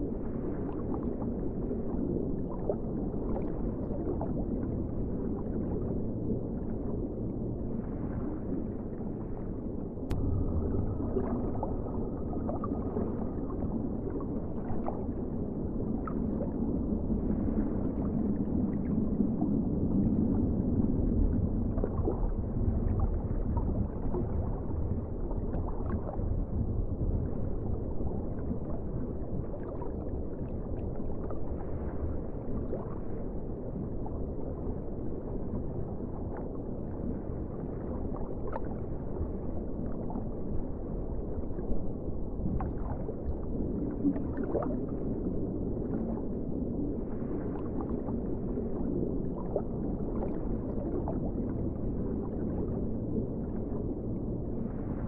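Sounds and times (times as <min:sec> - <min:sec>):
faint water gurgles: 0:00.0 - 0:55.0
underwater rushing water: 0:00.0 - 0:55.0.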